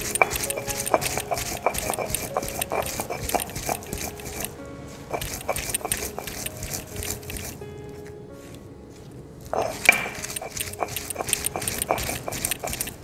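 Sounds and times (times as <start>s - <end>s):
stone roller grinding on slab: 0.0s - 7.6s, 9.5s - 13.0s.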